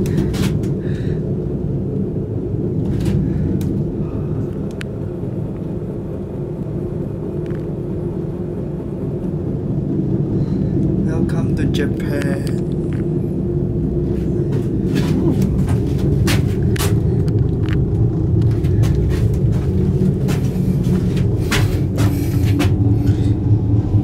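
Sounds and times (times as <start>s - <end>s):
cable car rumble and hum: 0.0s - 24.0s.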